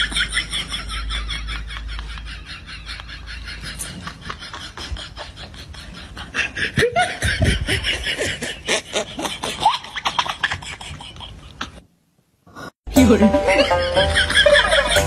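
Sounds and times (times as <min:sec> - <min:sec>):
laughter: 0:00.0 - 0:11.8, 0:13.4 - 0:15.0.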